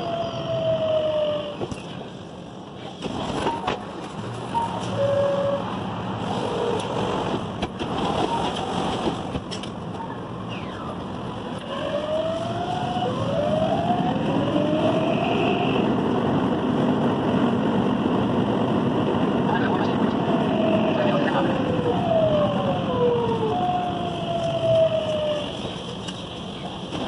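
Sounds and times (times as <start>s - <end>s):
train running rumble: 1.2s - 27.0s.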